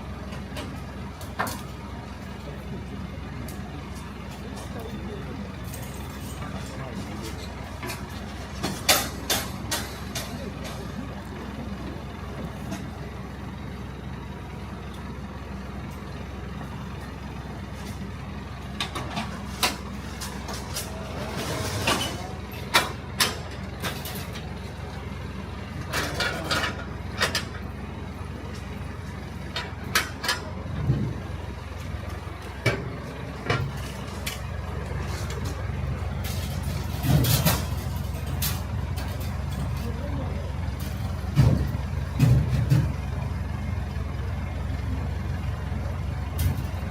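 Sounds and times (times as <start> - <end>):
heavy vehicle engine idling: 0.0 - 46.9.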